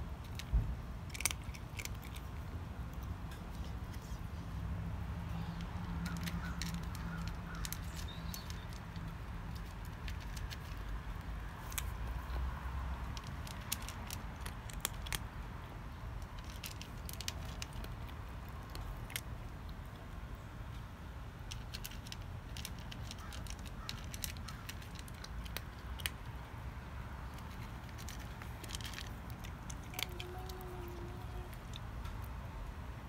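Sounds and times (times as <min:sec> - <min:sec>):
cat crunching dry kibble: 0:00.0 - 0:20.3, 0:21.3 - 0:32.6
low background hum: 0:00.0 - 0:33.0.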